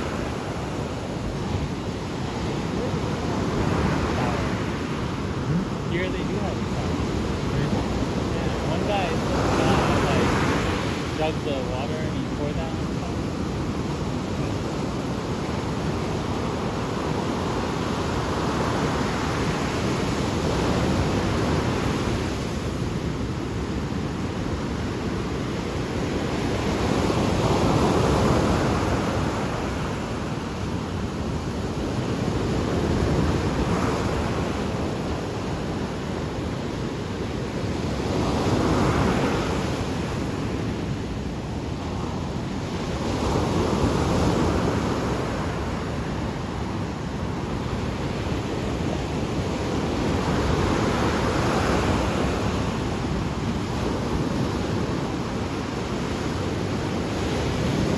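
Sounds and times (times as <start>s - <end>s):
waves breaking and washing in: 0.0s - 57.9s.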